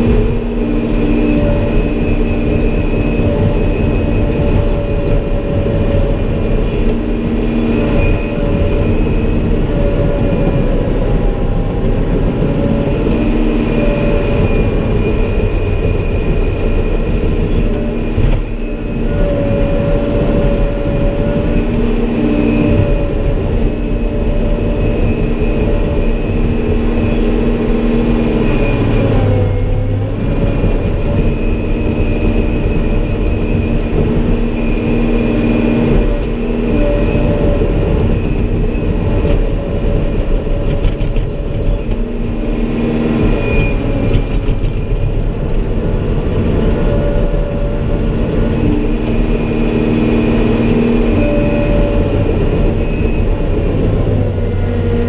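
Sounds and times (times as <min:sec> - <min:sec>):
thin high whine: 0:00.0 - 0:45.2
diesel engine running: 0:00.0 - 0:55.0.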